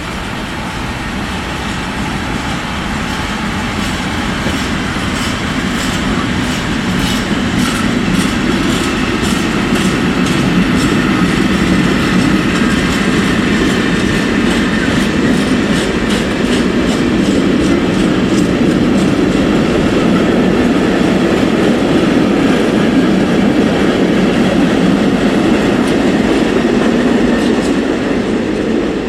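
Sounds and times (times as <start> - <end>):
freight train rumbling past: 0.0 - 29.0
train wheels clicking on track: 0.0 - 29.0.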